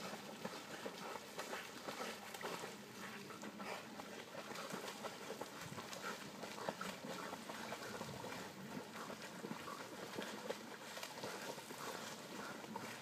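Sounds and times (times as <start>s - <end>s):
puppies splashing in water: 0.0s - 13.0s.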